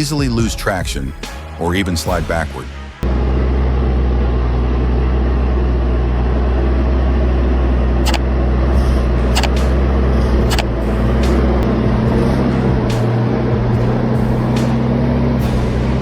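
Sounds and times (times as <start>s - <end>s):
heavy vehicle engine running: 3.0s - 16.0s.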